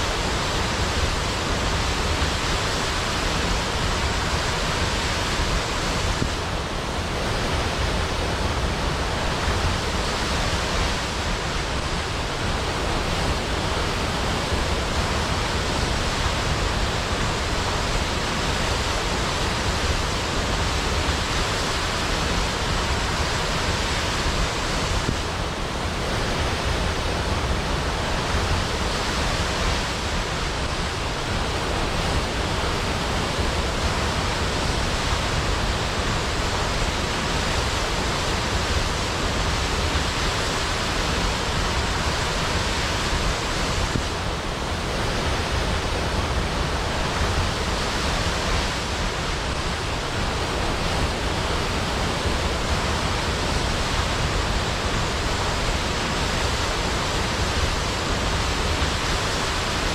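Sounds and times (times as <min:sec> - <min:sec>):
large waterfall pouring: 0:00.0 - 0:59.9.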